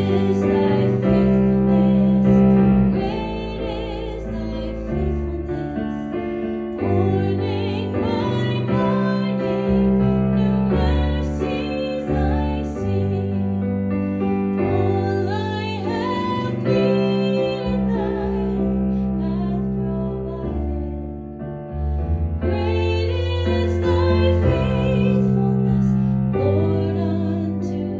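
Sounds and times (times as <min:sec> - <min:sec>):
piano music: 0:00.0 - 0:27.9.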